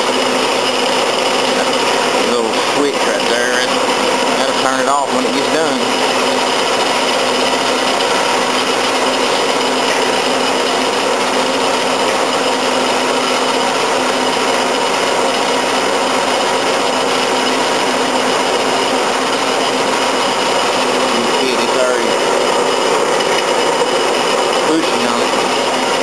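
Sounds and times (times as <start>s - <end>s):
band saw cutting metal bar: 0.0s - 26.0s.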